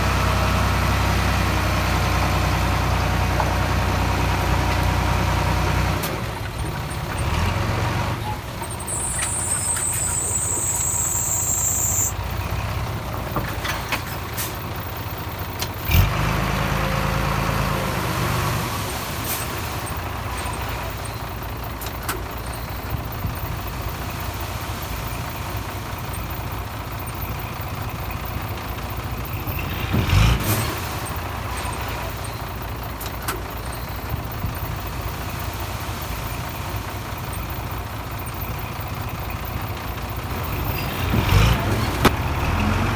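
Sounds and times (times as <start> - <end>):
diesel earthmoving machinery running: 0.0 - 42.9.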